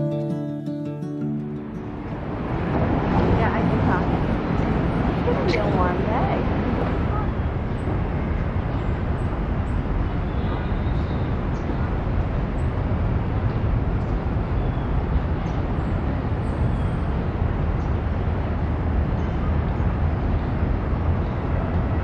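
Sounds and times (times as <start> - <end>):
distant traffic rumble: 1.2 - 22.0.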